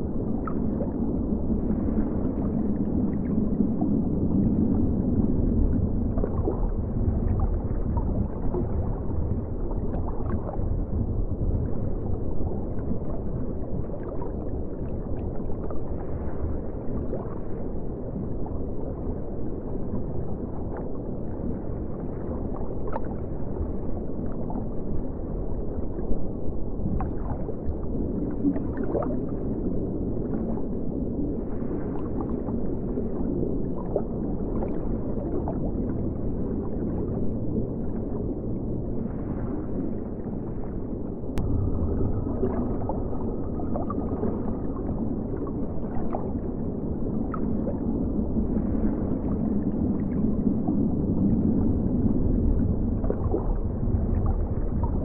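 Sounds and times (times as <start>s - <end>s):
aquarium water rumbling and gurgling: 0.0s - 55.0s.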